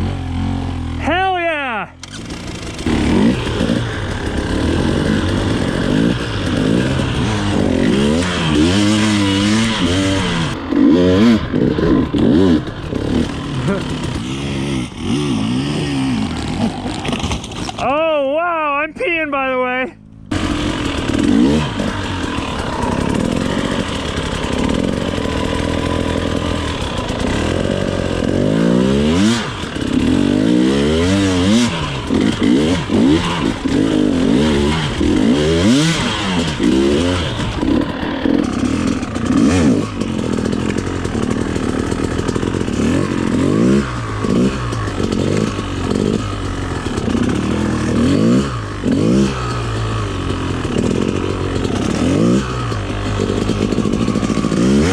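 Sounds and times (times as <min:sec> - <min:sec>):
dirt bike engine revving: 0:00.0 - 0:18.2, 0:20.2 - 0:54.9.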